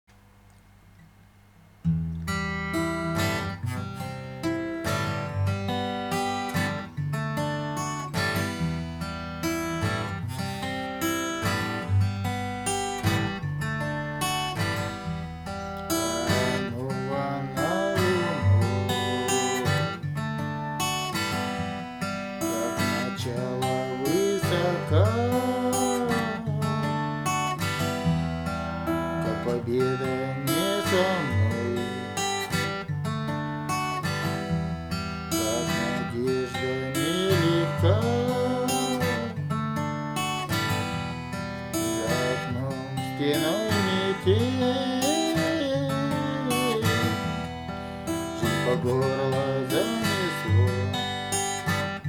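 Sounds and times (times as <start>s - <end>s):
acoustic guitar chords: 0.1s - 52.0s.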